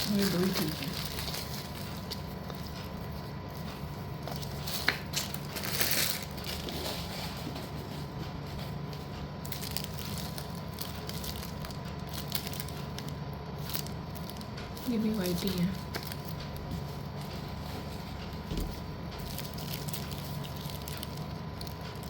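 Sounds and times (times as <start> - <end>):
crunchy rustle: 0.0 - 22.0.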